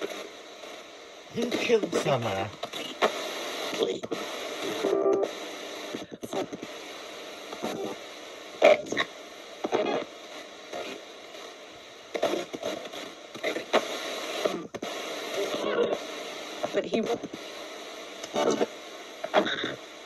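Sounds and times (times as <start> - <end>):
choppy snatches of broadcast: 0.0 - 20.0
radio static hiss: 0.0 - 20.0.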